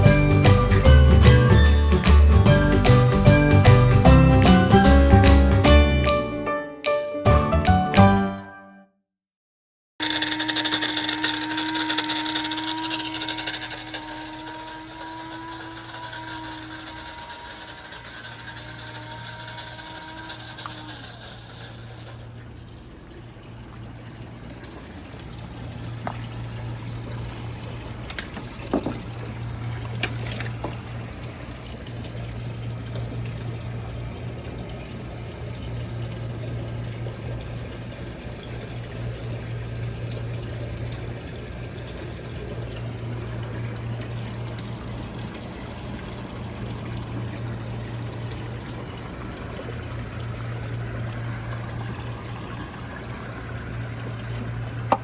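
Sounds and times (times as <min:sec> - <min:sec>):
water running and trickling: 0:10.0 - 0:55.0.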